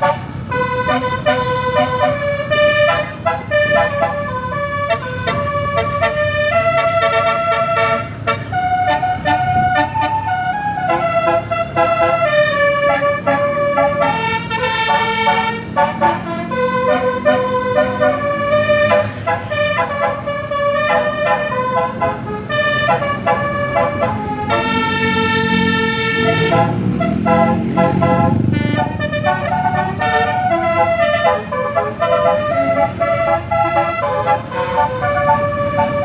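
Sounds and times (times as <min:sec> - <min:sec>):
bus engine rumble: 0:00.0 - 0:36.0
multi-tone bus air horn melody: 0:00.0 - 0:36.0.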